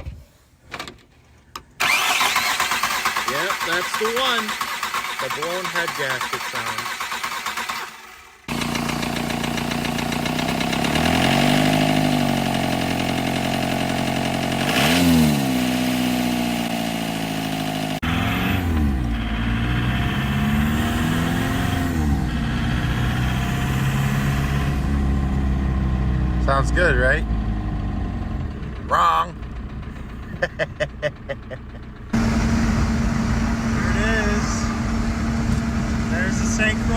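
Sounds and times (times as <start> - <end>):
diesel engine revving: 1.8 - 36.9.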